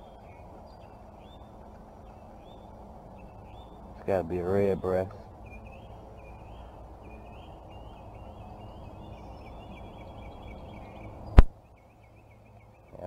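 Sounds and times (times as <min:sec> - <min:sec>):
bird chirping: 0:00.0 - 0:13.0
low steady hiss: 0:00.0 - 0:13.0.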